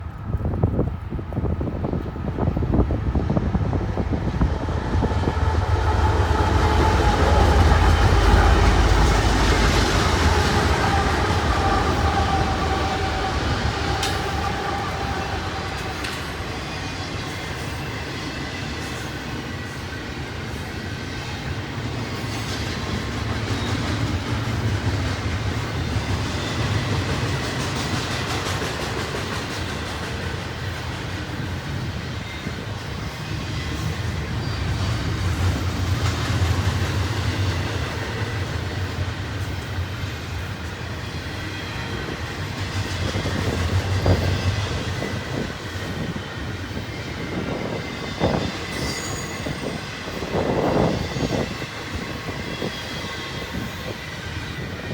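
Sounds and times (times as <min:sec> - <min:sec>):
diesel locomotive rumble: 0:00.0 - 0:17.2, 0:22.7 - 0:54.0
train wheels clicking: 0:03.7 - 0:54.9.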